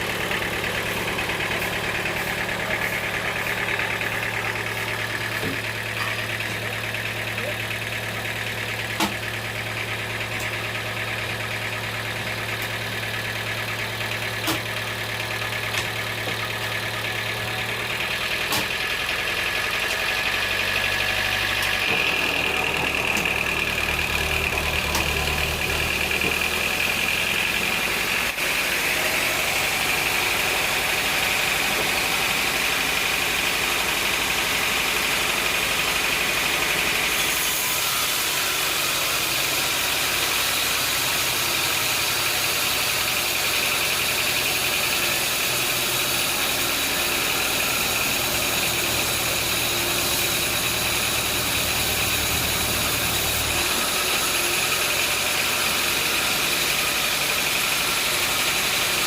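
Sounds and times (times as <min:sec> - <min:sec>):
sawmill machinery hum: 0:00.0 - 0:59.0.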